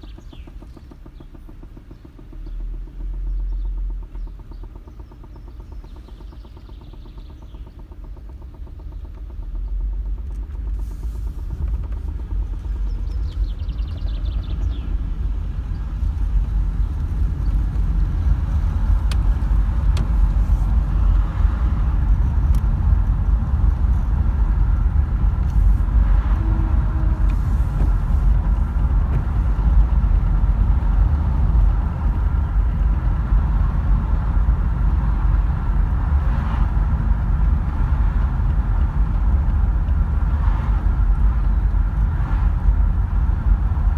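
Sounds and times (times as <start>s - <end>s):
car engine idling with knocking: 0.0s - 43.9s.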